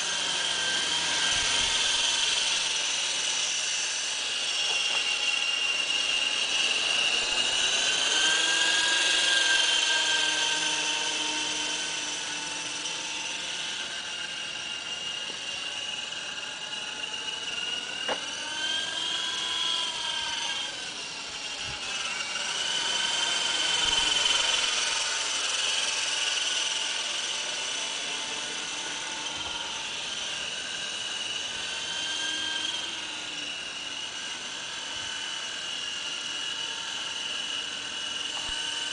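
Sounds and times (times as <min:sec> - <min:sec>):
model helicopter whine: 0:00.0 - 0:38.9.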